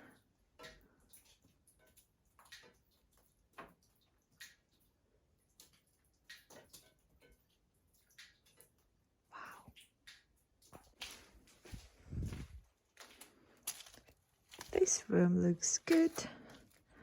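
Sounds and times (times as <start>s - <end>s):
water drips: 0.0s - 17.0s.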